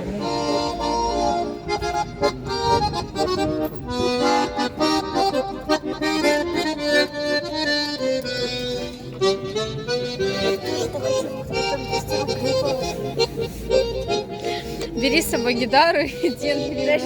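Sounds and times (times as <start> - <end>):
accordion playing: 0.0 - 17.0.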